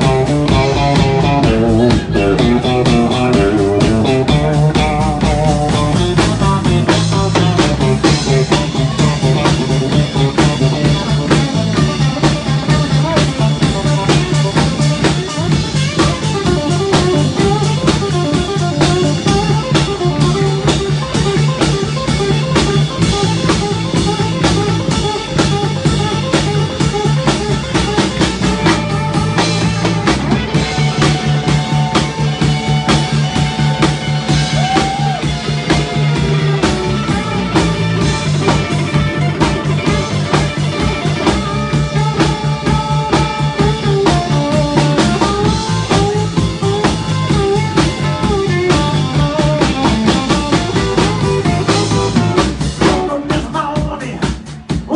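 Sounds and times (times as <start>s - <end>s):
drum kit: 0.0s - 54.9s
electric guitars: 0.0s - 54.9s.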